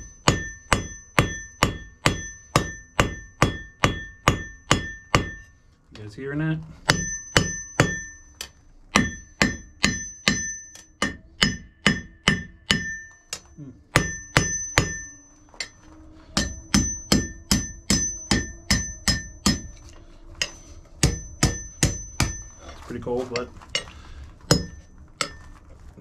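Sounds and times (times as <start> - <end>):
anvil ringing: 0.0 - 5.6, 6.9 - 15.8, 16.4 - 22.6, 24.5 - 25.4
hammer striking steel on anvil: 0.0 - 5.6, 6.8 - 15.8, 16.4 - 22.6, 24.5 - 25.4.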